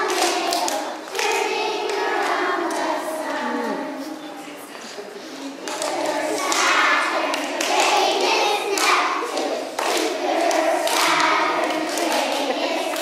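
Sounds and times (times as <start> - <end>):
children's voices: 0.0 - 13.0.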